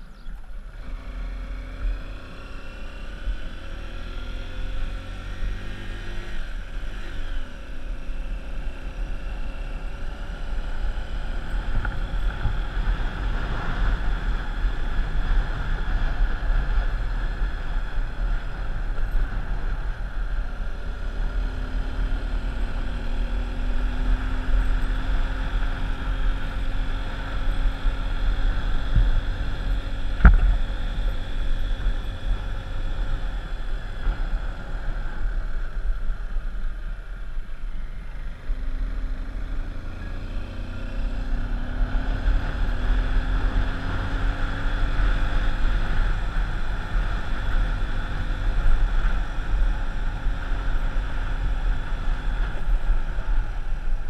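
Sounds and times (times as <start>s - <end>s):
vehicle engine: 0.0s - 54.0s
wind rumble on microphone: 0.0s - 54.0s.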